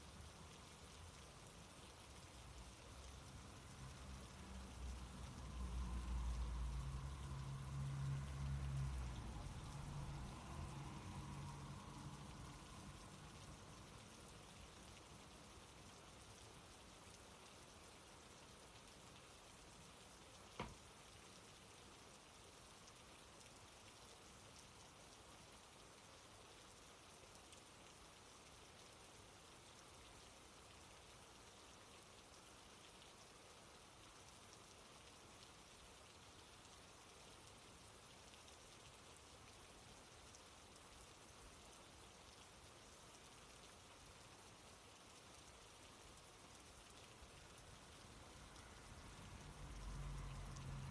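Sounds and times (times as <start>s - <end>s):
faint steady hiss: 0.0s - 50.9s.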